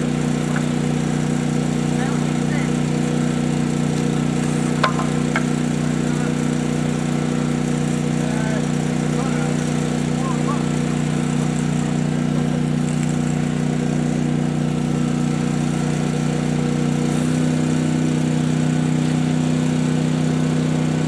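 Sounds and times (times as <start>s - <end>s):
generator and air compressor humming: 0.0s - 21.0s.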